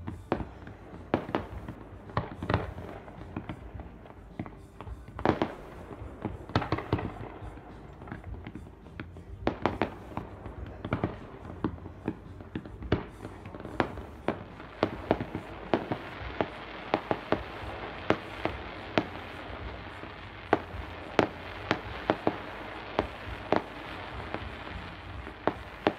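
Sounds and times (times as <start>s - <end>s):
fireworks bangs and pops: 0.0s - 25.9s
fireworks crackling hiss: 0.0s - 25.9s.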